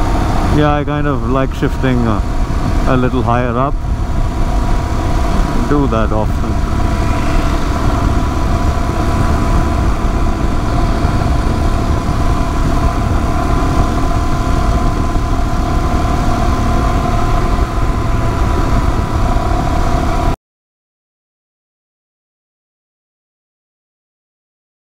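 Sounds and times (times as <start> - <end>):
motorcycle engine cruising: 0.0 - 20.4
wind rushing over microphone: 0.0 - 20.4.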